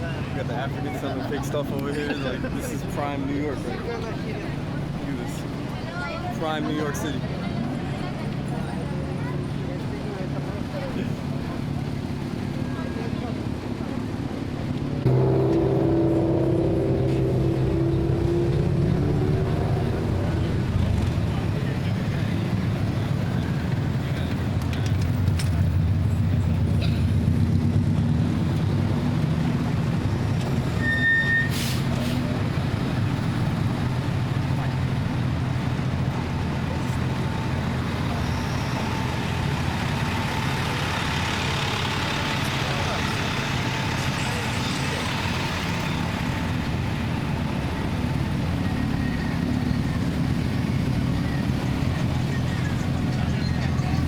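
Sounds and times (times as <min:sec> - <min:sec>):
traffic engines idling and passing: 0:00.0 - 0:54.0.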